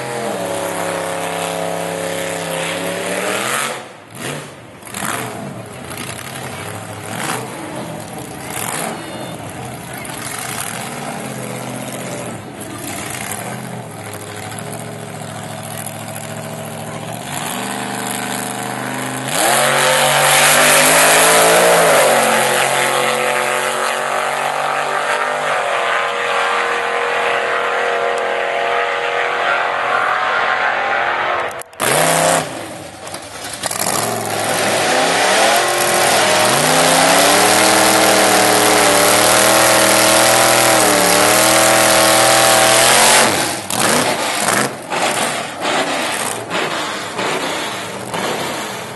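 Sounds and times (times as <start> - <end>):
race truck engine revving: 0.0 - 48.9.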